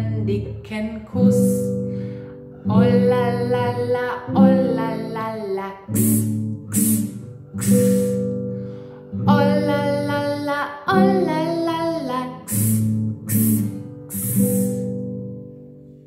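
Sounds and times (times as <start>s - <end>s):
woman singing: 0.0s - 1.9s, 2.6s - 8.3s, 9.2s - 15.0s
strummed acoustic guitar: 1.1s - 16.0s.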